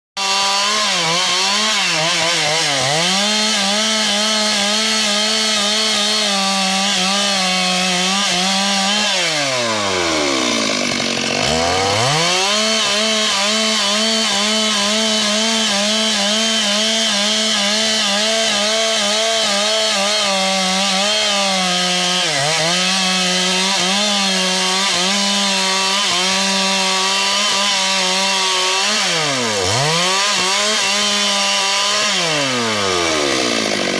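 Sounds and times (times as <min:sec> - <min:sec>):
chainsaw cutting through wood: 0:00.2 - 0:33.9.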